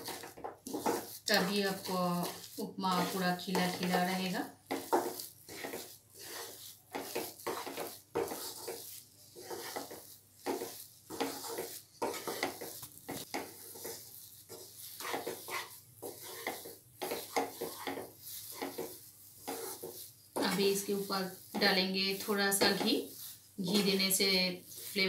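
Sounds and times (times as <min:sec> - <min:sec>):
spatula scraping a pan: 0:00.0 - 0:25.0.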